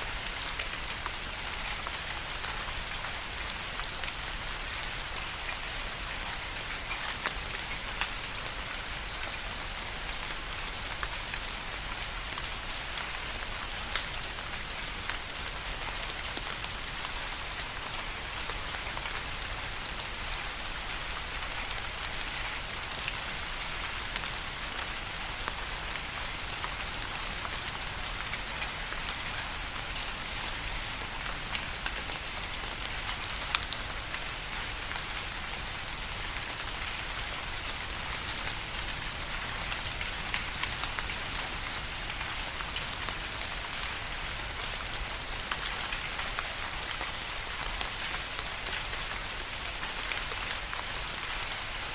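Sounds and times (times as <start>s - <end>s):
rain on a hard surface: 0.0s - 51.9s.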